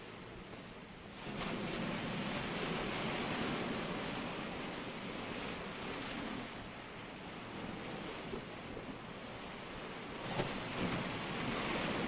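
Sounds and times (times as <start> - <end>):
ocean waves washing: 0.0 - 12.0.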